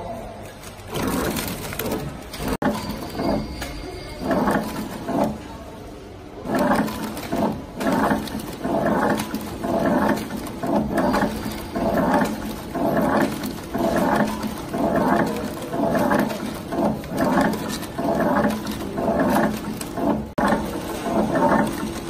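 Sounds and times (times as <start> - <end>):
wrapping machine whirring rhythmically: 0.3 - 22.0.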